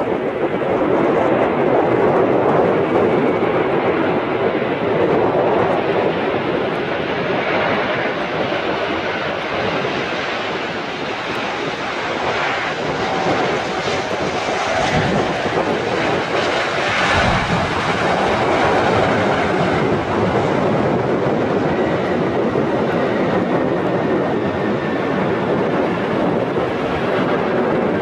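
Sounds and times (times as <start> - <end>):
jet engines passing: 0.0 - 28.0
wind buffeting microphone: 0.0 - 28.0.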